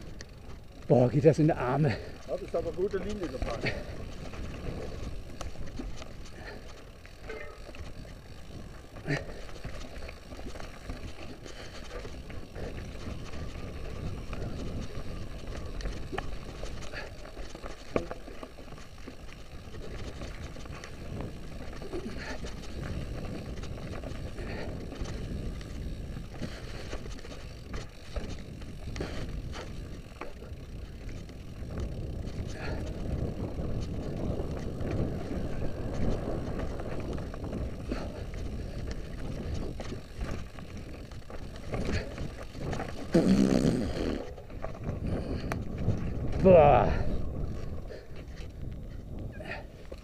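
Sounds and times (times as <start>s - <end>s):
tyres crunching over stones: 0.0s - 43.4s
bike jolt: 0.0s - 50.0s
bike knocking and clattering: 0.0s - 50.0s.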